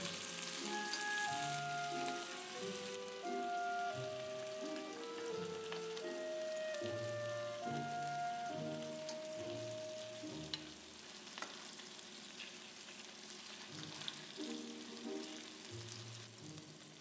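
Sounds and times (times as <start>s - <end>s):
soft background music: 0.0s - 10.9s, 13.7s - 17.0s
chicken wings sizzling in fat: 0.0s - 17.0s.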